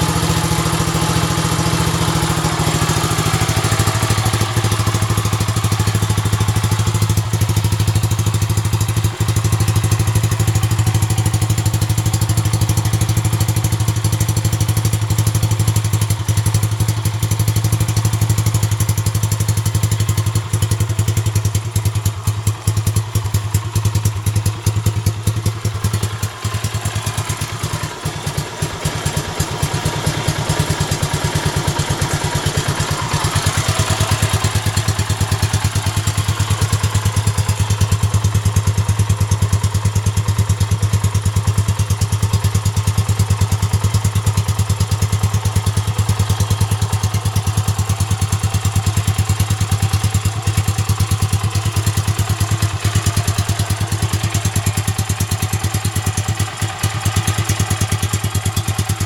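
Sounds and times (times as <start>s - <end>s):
motorcycle engine running at low revs: 0.0s - 59.0s.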